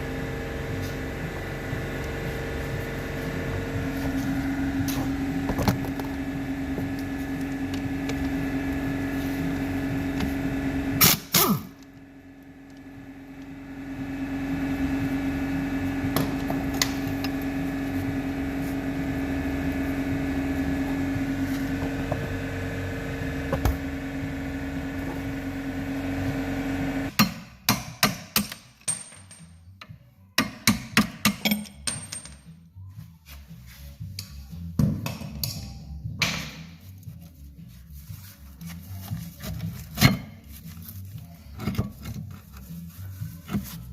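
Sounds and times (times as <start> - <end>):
mechanical hum with tone: 0.0 - 43.9.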